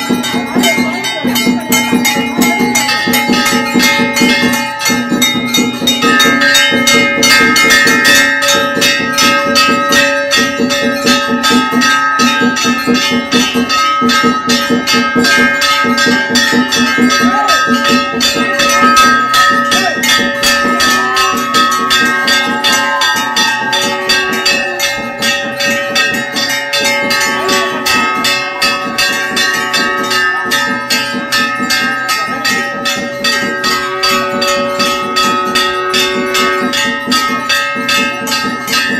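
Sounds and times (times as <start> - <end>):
percussion: 0.0 - 38.9
temple bells ringing: 0.0 - 38.9.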